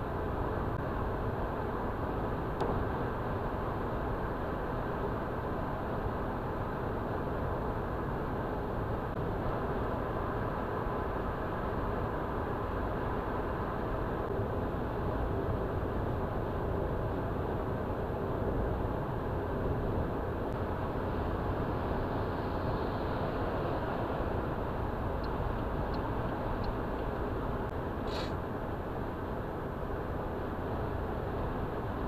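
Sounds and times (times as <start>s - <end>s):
car road noise from inside cabin: 0.0s - 32.0s.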